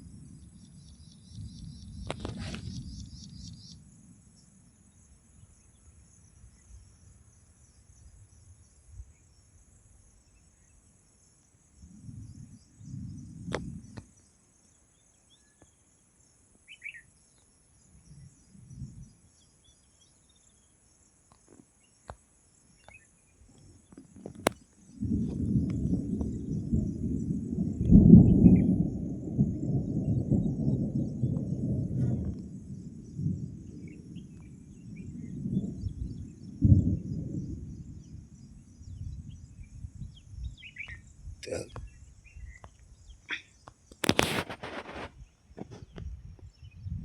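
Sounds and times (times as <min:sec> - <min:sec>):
insects trilling: 0:00.0 - 0:47.0
bird chirp: 0:00.4 - 0:47.0.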